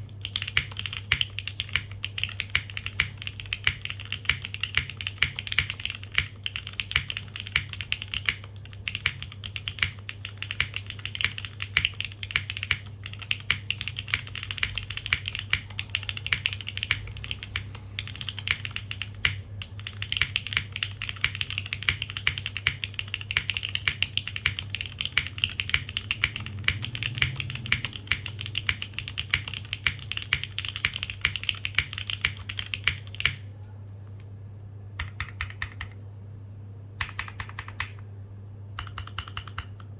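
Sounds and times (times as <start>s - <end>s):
mechanical keyboard typing: 0.0s - 33.5s, 35.0s - 36.0s, 37.0s - 38.1s, 38.8s - 39.9s.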